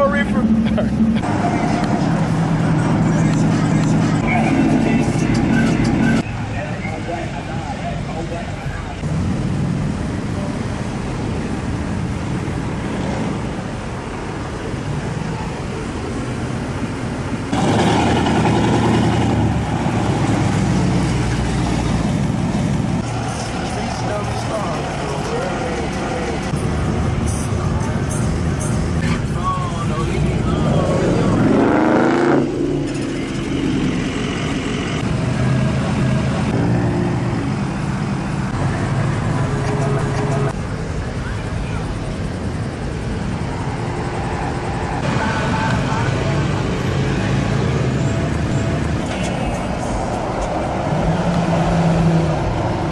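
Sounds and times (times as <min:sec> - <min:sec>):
truck engines in traffic: 0:00.0 - 0:52.9.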